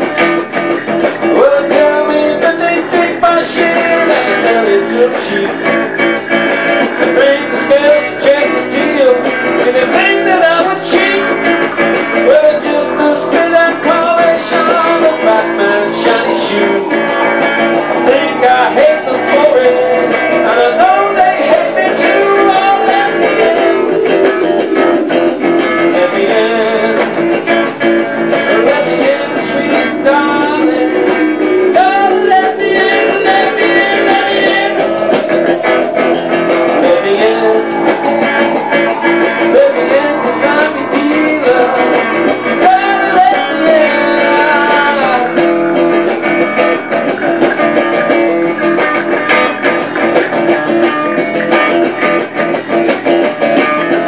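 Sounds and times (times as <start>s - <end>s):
drum machine beat: 0.0s - 54.0s
electric bass: 0.0s - 54.0s
electric guitar: 0.0s - 54.0s.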